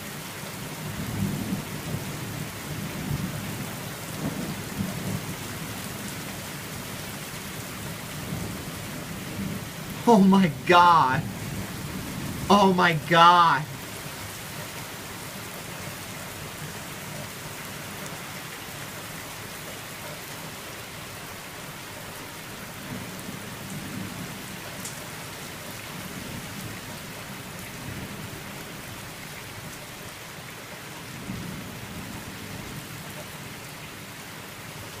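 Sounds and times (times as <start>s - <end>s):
heavy rain hiss: 0.0s - 30.2s.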